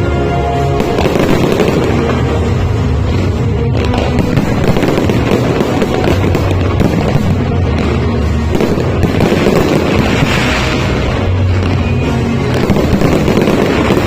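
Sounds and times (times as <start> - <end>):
fireworks crackling and booming: 0.0 - 14.0
music playing: 0.0 - 14.0.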